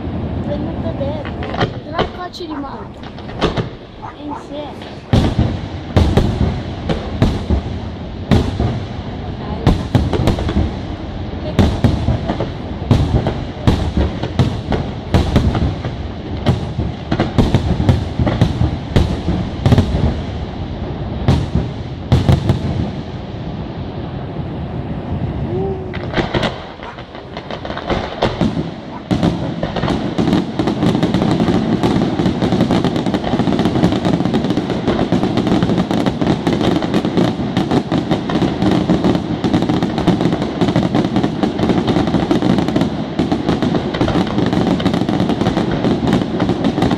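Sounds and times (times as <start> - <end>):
fireworks bursting with bangs: 0.0 - 46.9.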